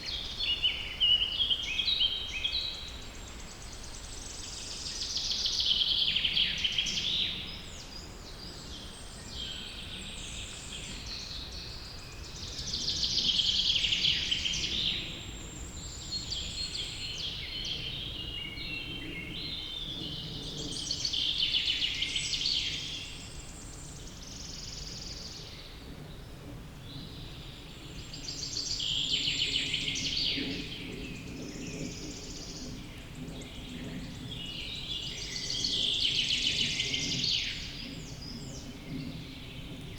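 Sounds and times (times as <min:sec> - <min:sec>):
low background noise: 0:00.0 - 0:39.9
songbirds singing: 0:00.0 - 0:39.9.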